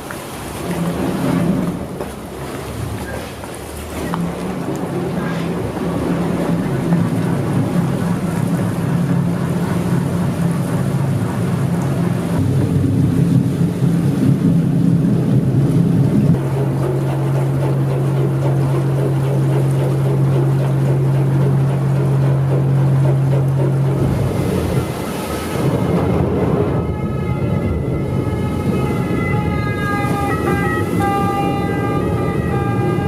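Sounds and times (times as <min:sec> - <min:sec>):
boat engine humming: 0:00.0 - 0:33.0
water noise: 0:00.0 - 0:33.0.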